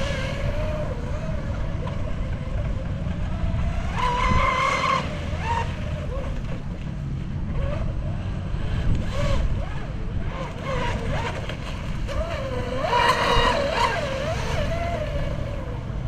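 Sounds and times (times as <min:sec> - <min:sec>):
electric boat motor whine: 0:00.0 - 0:16.0
low wind rumble on microphone: 0:00.0 - 0:16.0.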